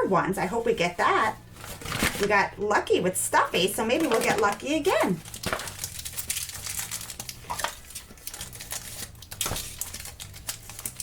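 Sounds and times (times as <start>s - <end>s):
plastic packaging crinkling: 0.8s - 2.4s, 3.5s - 11.0s.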